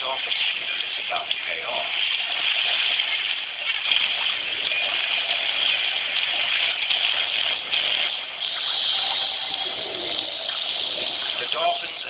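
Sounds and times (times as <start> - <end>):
churning seawater: 0.0 - 12.0.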